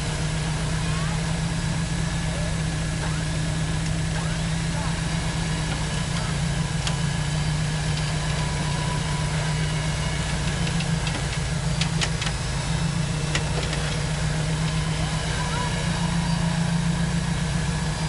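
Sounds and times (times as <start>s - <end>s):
truck engine at low revs: 0.0s - 18.0s.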